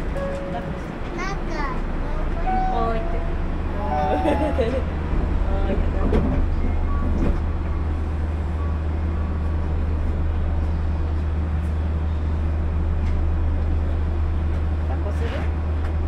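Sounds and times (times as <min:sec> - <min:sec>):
monorail equipment humming: 0:00.0 - 0:16.0.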